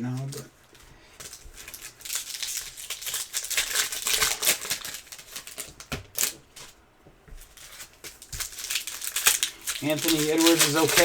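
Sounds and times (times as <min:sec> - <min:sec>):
cards being handled: 0:00.0 - 0:11.0
wrappers crinkling and tearing: 0:00.0 - 0:11.0.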